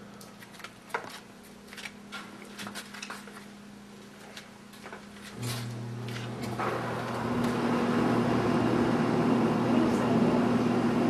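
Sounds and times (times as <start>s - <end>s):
jacuzzi pump motor humming: 2.1s - 11.0s.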